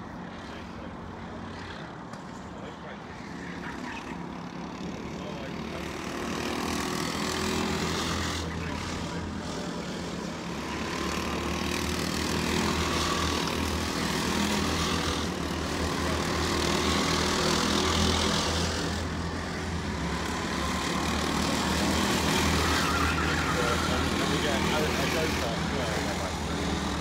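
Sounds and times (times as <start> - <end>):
kart engines droning: 0.0 - 27.0.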